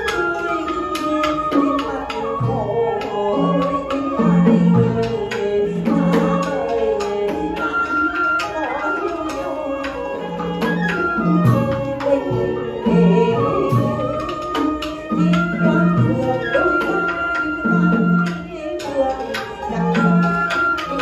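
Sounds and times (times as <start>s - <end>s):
clacking percussion: 0.0s - 21.0s
sustained instrumental melody: 0.0s - 21.0s.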